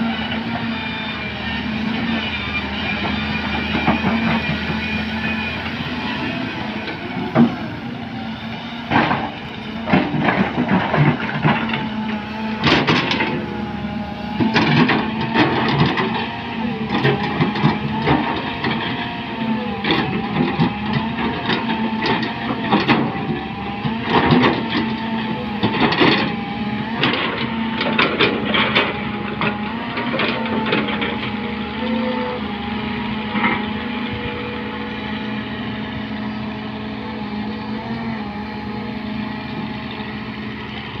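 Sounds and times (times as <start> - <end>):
excavator diesel engine running: 0.0 - 41.0
hydraulic whine: 0.0 - 41.0.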